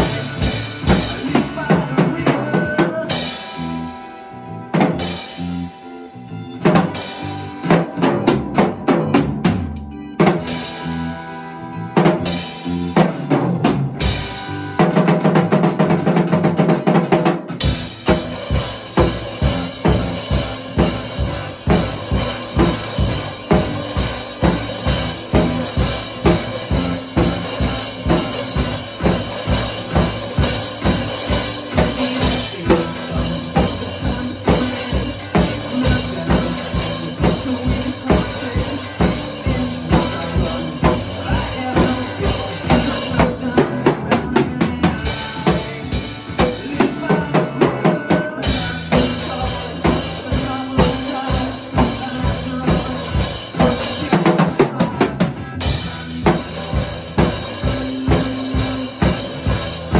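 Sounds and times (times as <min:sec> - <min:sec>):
bass drum and snare beat: 0:00.0 - 0:03.8, 0:12.1 - 0:59.9
rock backing music: 0:00.0 - 0:59.9.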